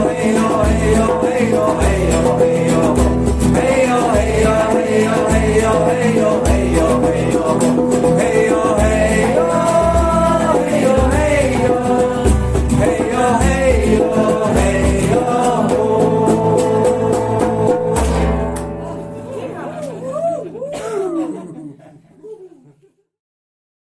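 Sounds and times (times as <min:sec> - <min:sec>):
strummed guitar chords: 0:00.0 - 0:19.8.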